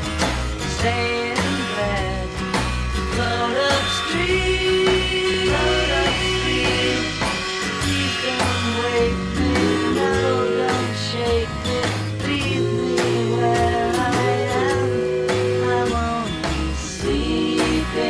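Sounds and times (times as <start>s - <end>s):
rock music with guitar: 0.0s - 18.0s.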